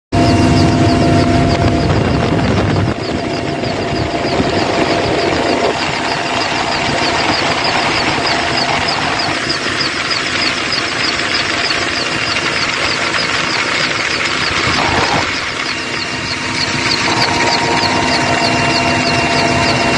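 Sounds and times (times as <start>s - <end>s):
helicopter engines and rotor: 0.1s - 19.9s
high pulsing: 0.2s - 19.9s.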